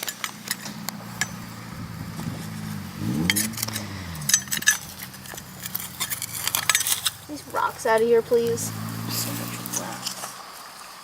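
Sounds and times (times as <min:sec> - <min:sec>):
low steady hum: 0:00.1 - 0:10.4.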